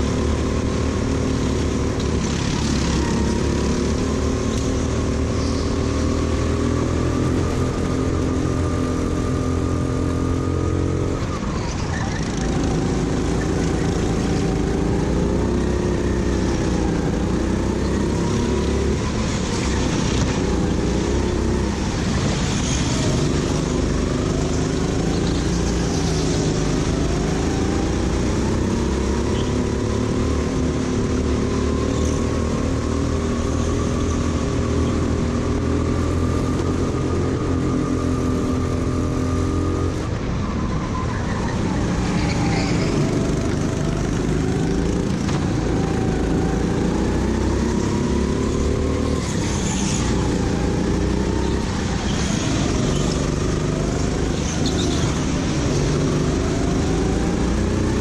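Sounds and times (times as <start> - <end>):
go-kart engine revving: 0.0 - 40.2, 40.9 - 58.0.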